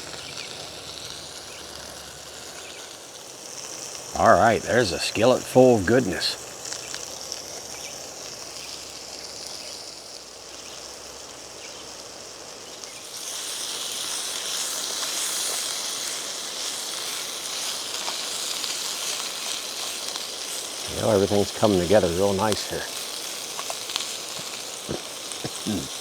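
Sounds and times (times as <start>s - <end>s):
vegetables sizzling in a skillet: 0.0s - 26.0s.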